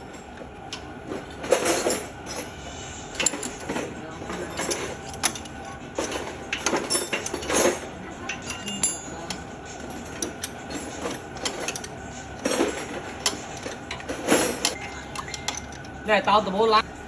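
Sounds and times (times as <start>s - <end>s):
metal tools clinking: 0.0s - 16.4s.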